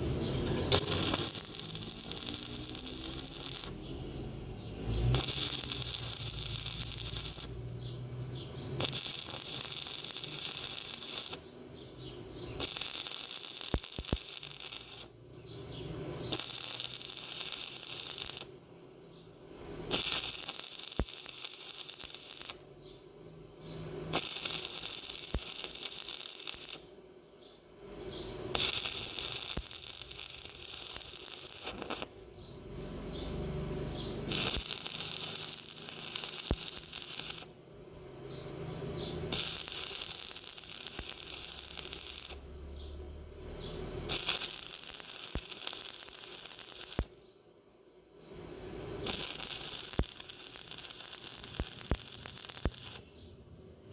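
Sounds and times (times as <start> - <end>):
welding arc crackling and hissing: 0.0 - 11.6, 12.4 - 15.2, 16.2 - 18.6, 19.6 - 22.7, 24.0 - 26.9, 28.2 - 32.4, 33.0 - 37.6, 38.8 - 42.6, 43.8 - 47.2, 48.6 - 53.2.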